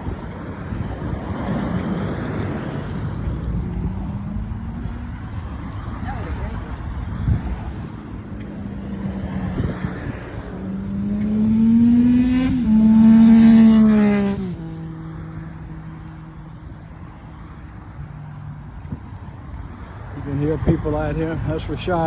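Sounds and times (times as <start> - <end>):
wind noise on microphone: 0.0 - 17.1, 17.8 - 21.6
vehicle passing by: 0.0 - 18.6.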